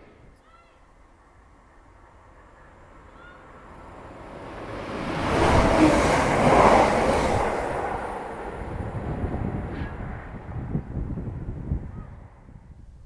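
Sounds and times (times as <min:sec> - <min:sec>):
diesel train passing at speed: 0:01.0 - 0:12.6.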